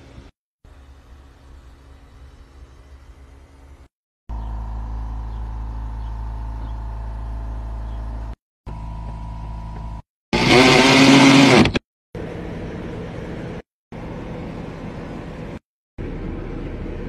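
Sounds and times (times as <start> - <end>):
low machine hum: 0.0 - 10.0, 12.2 - 17.0.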